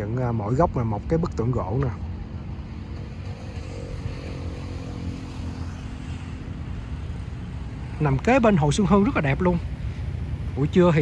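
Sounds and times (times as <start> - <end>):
faint engine hum: 0.0 - 11.0
low rumble of traffic: 0.0 - 11.0.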